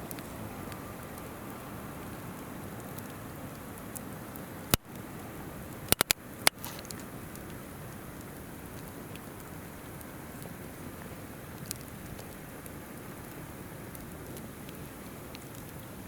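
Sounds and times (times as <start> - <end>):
campfire crackling and popping: 0.0 - 16.0
river flowing: 0.0 - 16.0.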